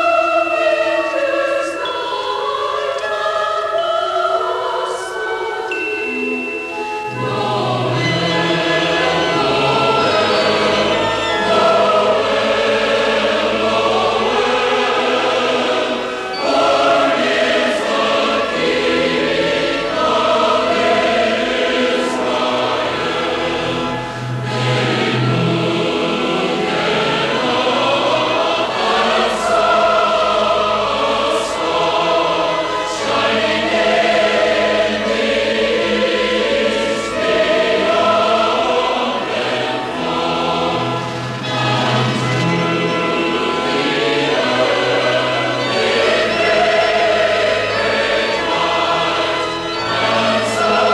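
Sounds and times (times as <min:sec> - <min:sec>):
choir singing: 0:00.0 - 0:50.9.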